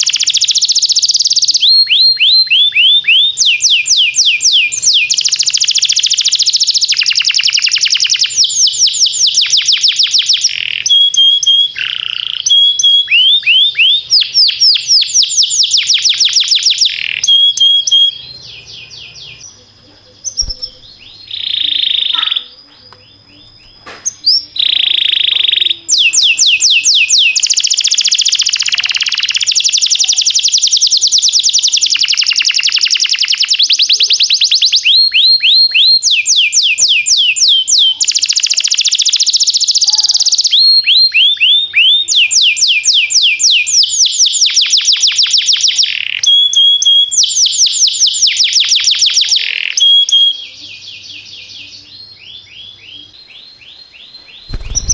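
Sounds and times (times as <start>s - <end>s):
canary singing fast trills: 0.0s - 54.9s.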